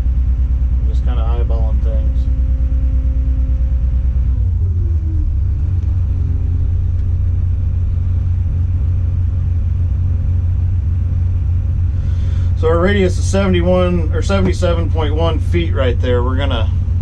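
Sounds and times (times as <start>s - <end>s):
crane engine running: 0.0s - 17.0s.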